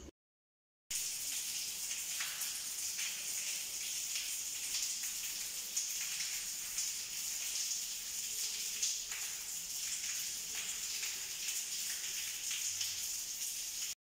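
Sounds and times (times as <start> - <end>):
water drips: 0.9 - 14.0.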